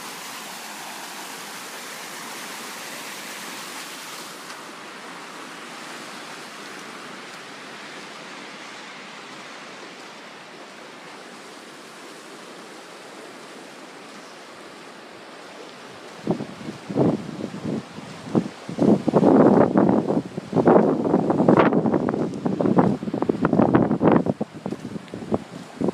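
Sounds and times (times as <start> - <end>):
floodwater rushing hiss: 0.0 - 25.9.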